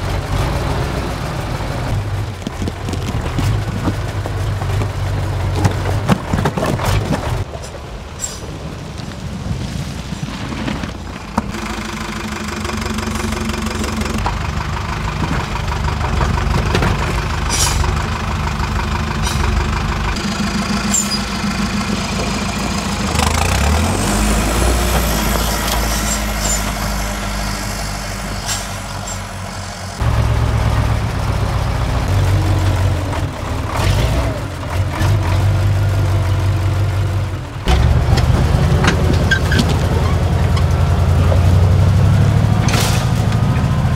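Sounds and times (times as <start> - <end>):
truck engine revving: 0.0 - 7.6, 10.0 - 43.9.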